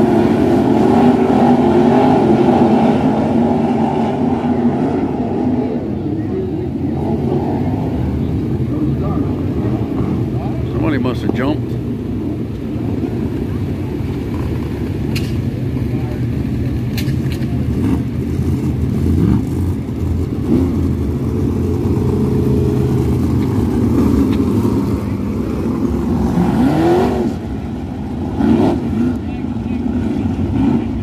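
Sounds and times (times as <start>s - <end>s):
race car engines revving: 0.0s - 31.0s.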